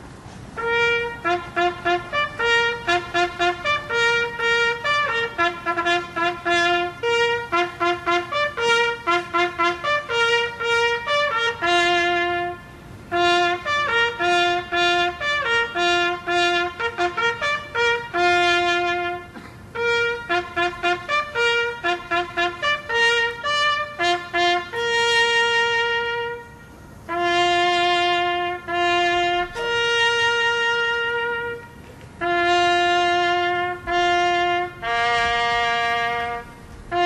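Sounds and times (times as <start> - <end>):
trumpet fanfare: 0.5 - 37.0.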